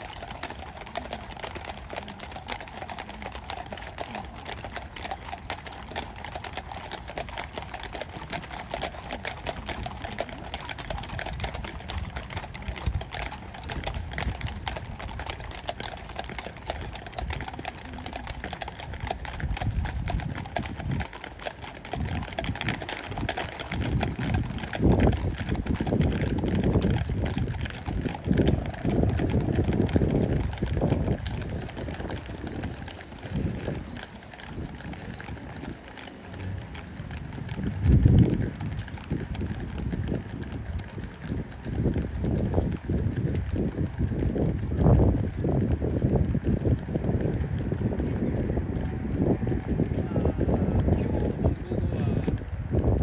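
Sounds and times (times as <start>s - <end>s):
horse hooves on stone: 0.0s - 53.0s.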